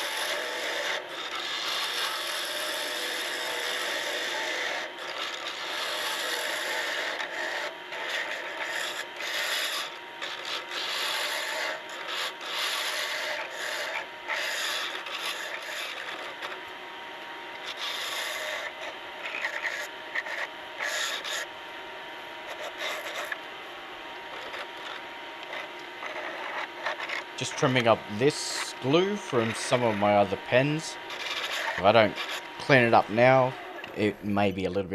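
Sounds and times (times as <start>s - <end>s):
lathe tool scraping wood: 0.0s - 34.7s.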